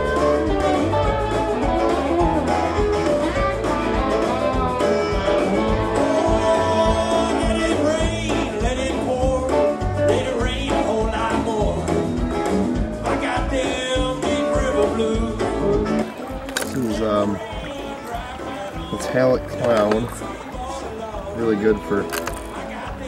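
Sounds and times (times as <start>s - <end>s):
song with guitar and beat: 0.0s - 23.0s
person singing: 3.7s - 23.0s.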